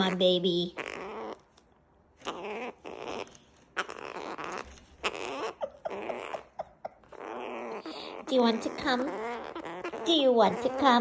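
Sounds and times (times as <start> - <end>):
cockatoo rasping growls: 0.0 - 1.5, 2.2 - 11.0.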